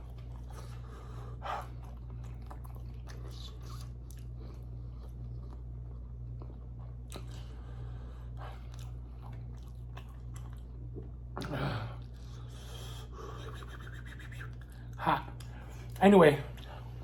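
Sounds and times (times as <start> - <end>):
person chewing food: 0.0 - 17.0
steady low hum: 0.0 - 17.0.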